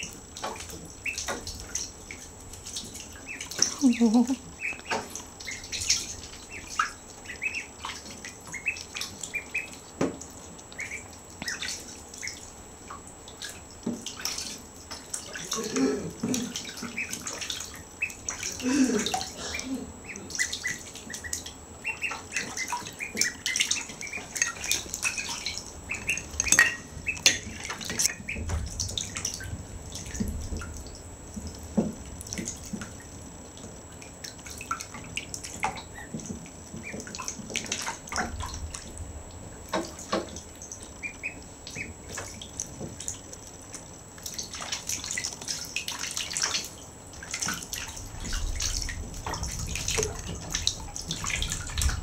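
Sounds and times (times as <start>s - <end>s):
bathwater splashing and dripping: 0.0s - 52.0s.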